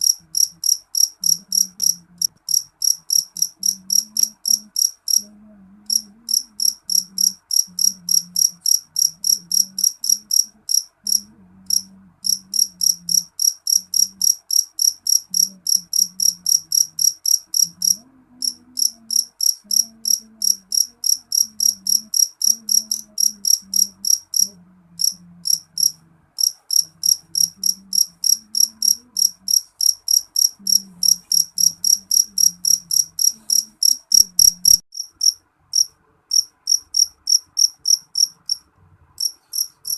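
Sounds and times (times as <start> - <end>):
cricket chirping: 0.0 - 38.6, 39.2 - 39.9.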